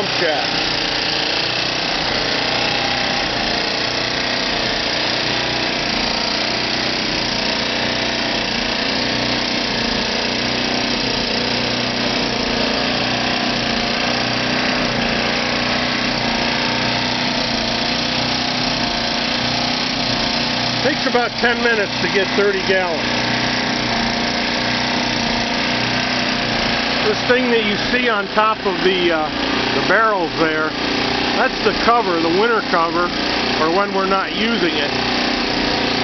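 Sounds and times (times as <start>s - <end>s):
portable generator running: 0.0s - 36.0s.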